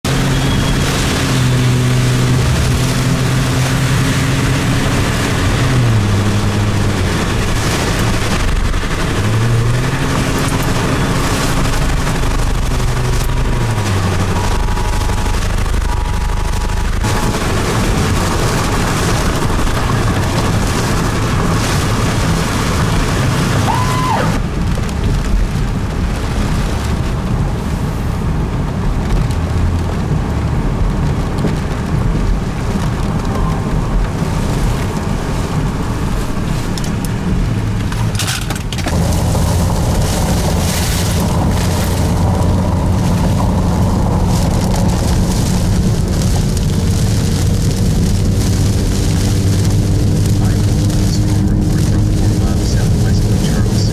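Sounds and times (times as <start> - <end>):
rain: 0.0 - 53.9
vehicle engine and road noise: 0.0 - 53.9
strong wind buffeting microphone: 0.2 - 53.9.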